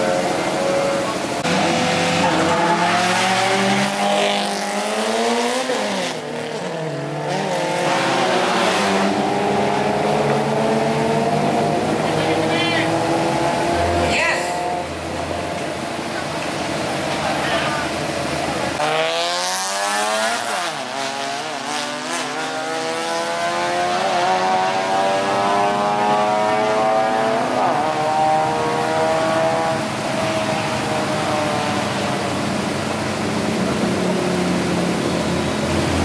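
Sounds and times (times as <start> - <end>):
drag racing car accelerating: 0.0 - 36.0.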